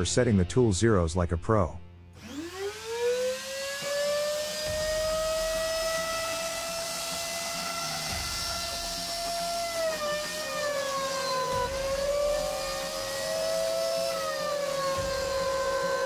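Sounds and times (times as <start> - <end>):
router motor whine: 2.2 - 16.0.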